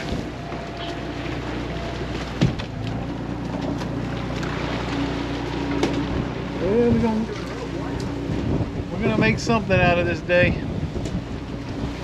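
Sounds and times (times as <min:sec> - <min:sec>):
boat engines running: 0:00.0 - 0:12.0
churning water: 0:00.0 - 0:12.0
wind: 0:00.0 - 0:12.0.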